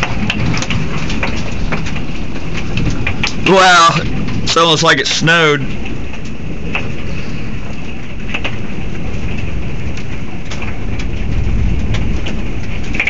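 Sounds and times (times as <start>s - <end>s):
hailstones ticking: 0.0s - 13.0s
rain falling: 0.0s - 13.0s.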